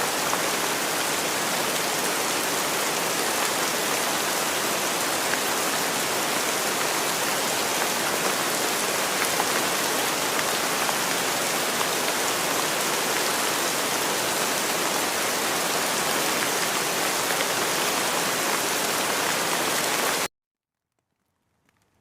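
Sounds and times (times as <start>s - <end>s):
rain falling: 0.0s - 20.3s.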